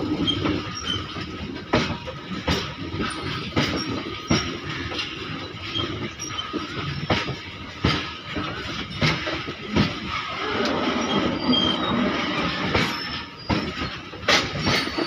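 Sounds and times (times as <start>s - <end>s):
train rumble: 0.0s - 15.0s
wheels clacking over rail joints: 0.0s - 15.0s.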